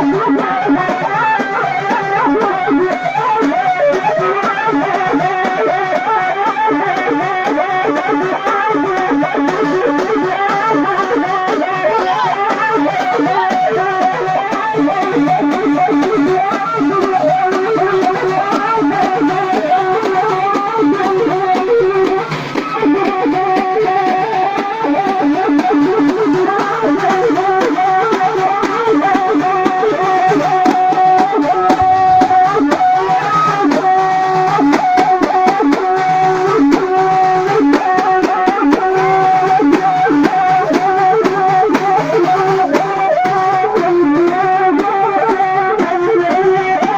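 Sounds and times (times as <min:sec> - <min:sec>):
fast folk dance music: 0:00.0 - 0:46.9.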